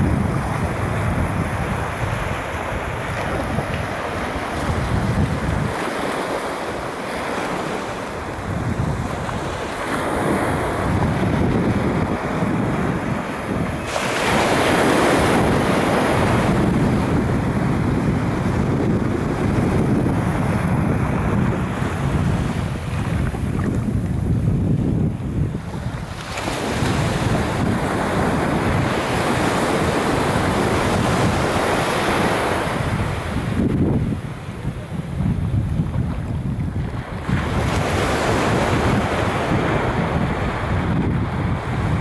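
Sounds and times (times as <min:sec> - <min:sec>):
surf washing onto beach: 0:00.0 - 0:42.0
wind on microphone: 0:00.0 - 0:42.0.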